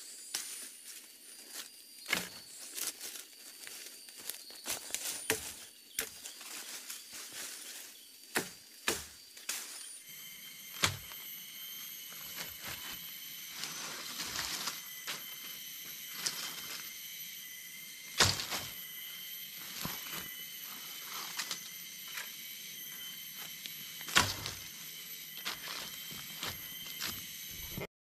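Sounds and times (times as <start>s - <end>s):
insects shrilling: 0.0s - 27.9s
leaves and twigs crackling: 0.2s - 27.9s.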